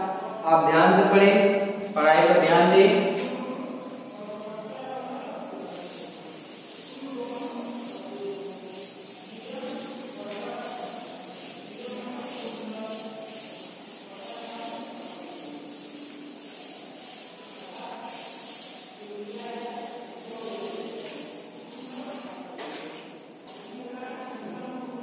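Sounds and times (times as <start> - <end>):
duster rubbing chalkboard: 2.0 - 23.7.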